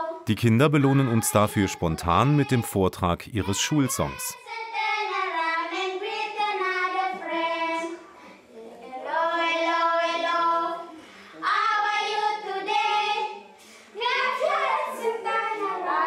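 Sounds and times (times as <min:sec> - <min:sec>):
children singing together: 0:00.8 - 0:16.0.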